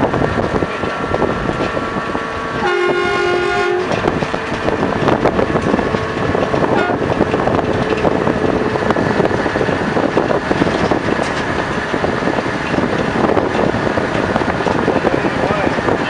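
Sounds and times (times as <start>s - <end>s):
train rumbling and rattling: 0.0s - 16.0s
wind on microphone: 0.0s - 16.0s.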